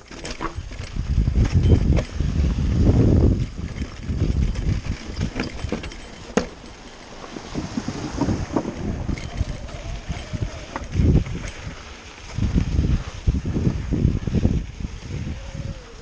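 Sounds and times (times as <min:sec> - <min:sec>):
bike rattling over bumps: 0:00.0 - 0:16.0
bike tyres rolling over rock: 0:00.0 - 0:16.0
wind on microphone: 0:00.5 - 0:16.0.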